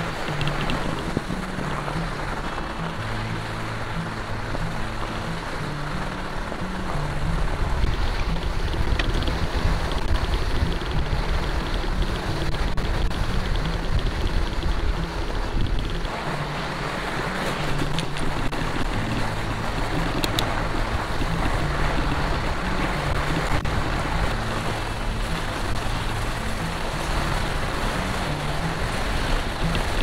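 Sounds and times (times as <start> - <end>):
bike tyres rolling on snow: 0.0 - 30.0
wind on microphone: 0.0 - 30.0.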